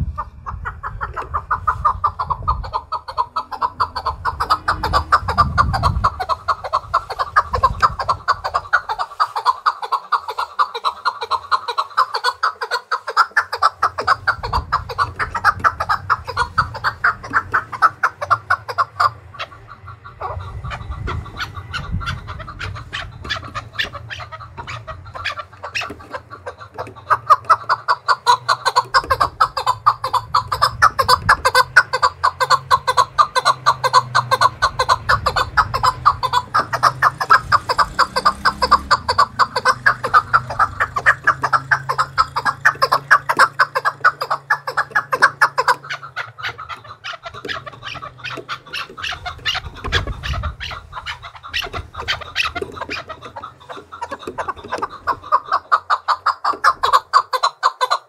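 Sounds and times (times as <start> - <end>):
partridge clucking call: 0.0 - 58.0.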